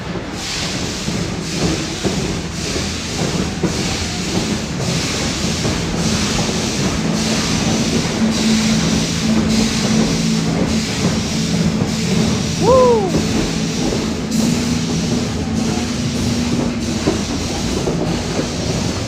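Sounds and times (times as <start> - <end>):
steam locomotive hissing: 0.0 - 19.0
train running drone: 0.0 - 19.0.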